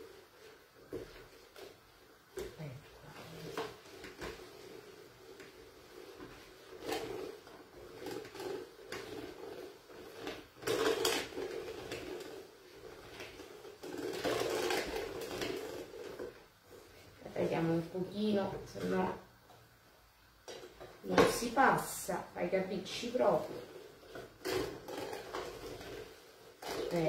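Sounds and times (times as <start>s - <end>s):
food mill scraping and grinding: 0.0s - 19.2s, 20.5s - 27.0s.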